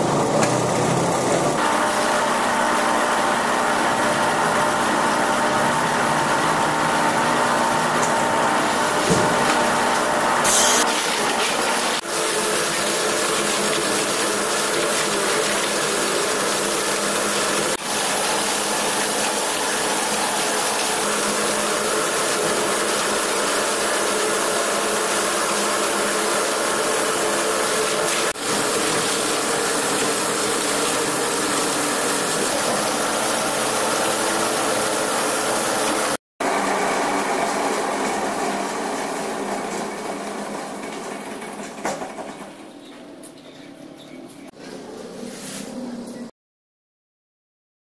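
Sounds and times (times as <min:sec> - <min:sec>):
plastic granulator grinding: 0:00.0 - 0:42.5.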